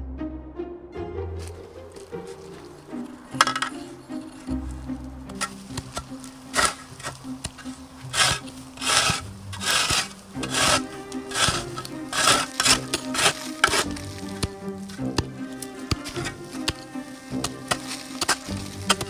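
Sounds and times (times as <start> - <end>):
soft background music: 0.0 - 19.0
shovel scraping gravelly soil: 1.4 - 19.0.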